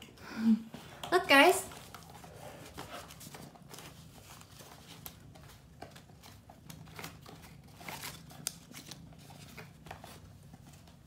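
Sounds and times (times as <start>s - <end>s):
plush toys rustling and crinkling: 1.1s - 11.0s.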